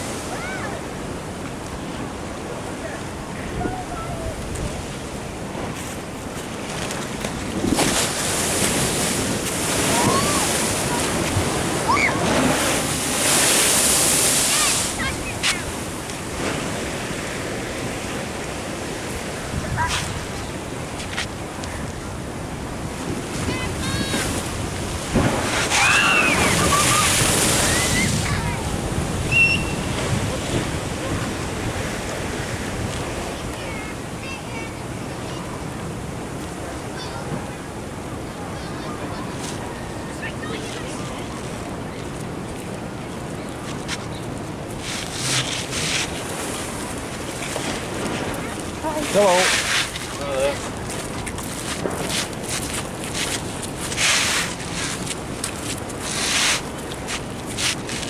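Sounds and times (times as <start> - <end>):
ocean surf washing in: 0.0 - 58.0
wave breaking: 0.0 - 58.0
wind on the microphone: 0.0 - 58.0.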